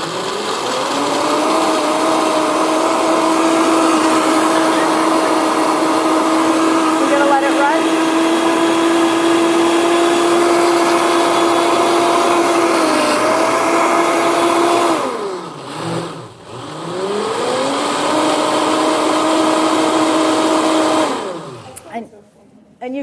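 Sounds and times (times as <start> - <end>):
blender motor running: 0.0 - 21.8.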